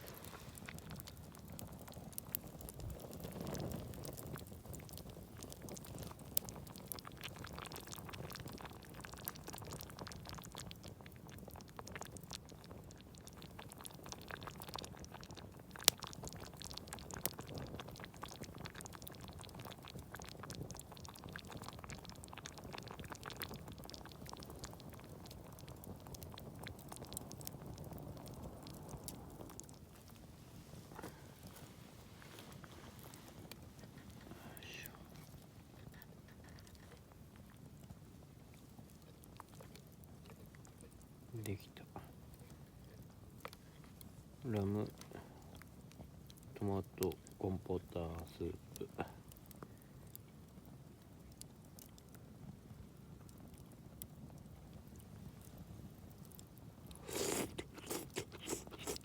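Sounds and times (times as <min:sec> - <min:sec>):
campfire crackling: 0:00.0 - 0:59.0
pot bubbling: 0:00.0 - 0:59.0.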